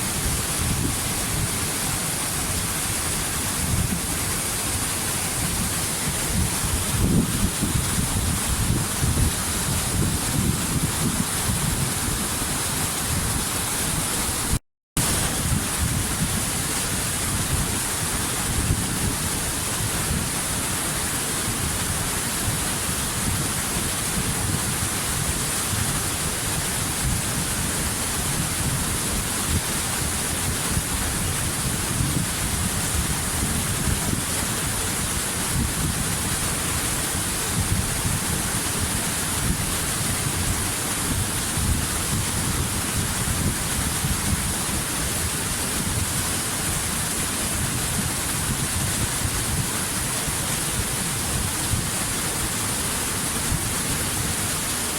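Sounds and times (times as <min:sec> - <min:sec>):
waterfall roaring: 0:00.0 - 0:54.9.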